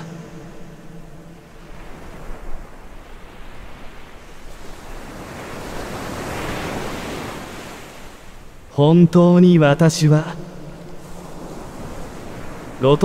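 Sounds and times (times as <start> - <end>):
ocean waves washing on shore: 0.0 - 13.0.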